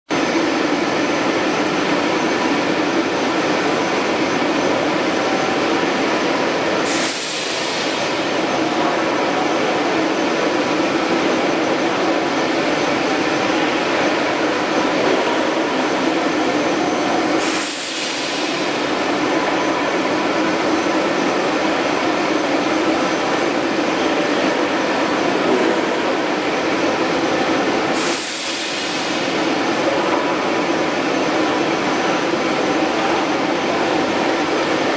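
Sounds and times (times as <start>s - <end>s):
industrial rollers din: 0.1s - 34.9s
steady hum tones: 0.1s - 34.9s.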